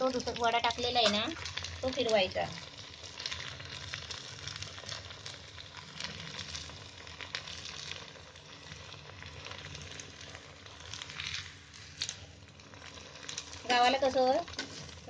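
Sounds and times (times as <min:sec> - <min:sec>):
crackles and pops: 0:00.0 - 0:15.0
food deep-frying in oil: 0:00.0 - 0:15.0.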